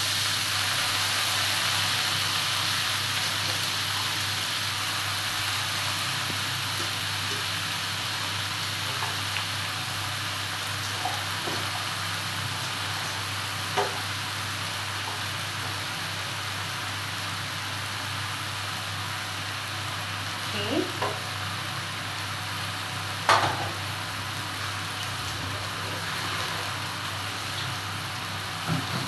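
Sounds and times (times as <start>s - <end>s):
seafood sizzling in a pot: 0.0s - 29.0s.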